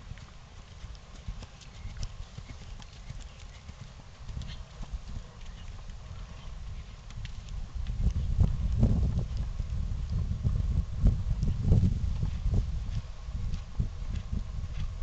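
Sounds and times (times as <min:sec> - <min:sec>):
hoofbeats on dirt: 0:00.0 - 0:15.0.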